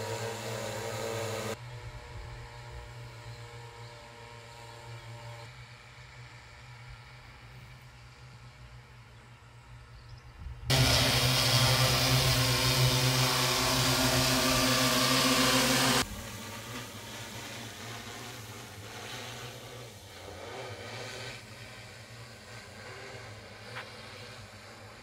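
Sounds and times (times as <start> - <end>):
drone propellers humming: 0.0 - 6.4, 10.7 - 25.0.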